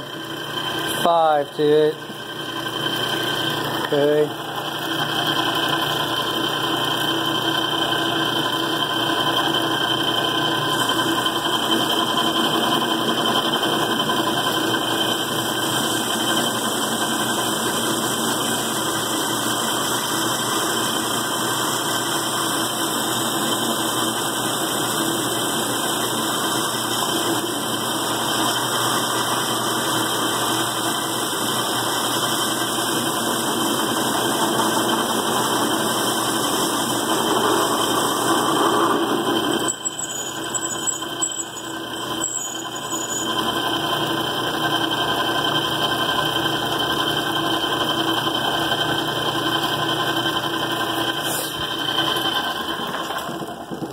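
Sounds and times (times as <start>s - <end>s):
metal lathe running: 0.0s - 53.9s.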